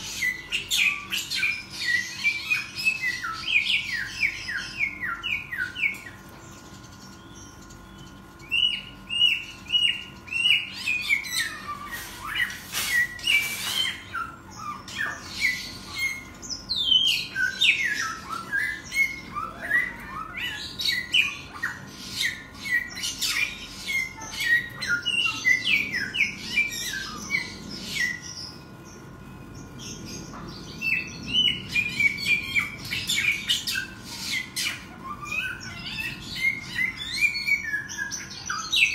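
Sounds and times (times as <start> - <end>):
songbird singing whistled notes: 0.0 - 38.9.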